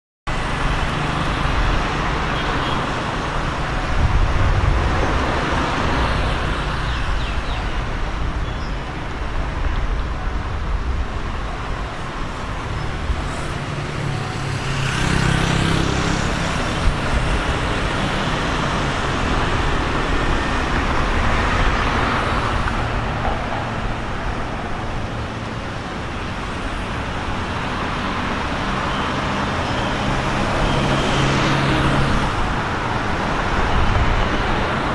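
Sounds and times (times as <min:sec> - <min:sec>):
cars passing over level crossing: 0:00.3 - 0:34.9.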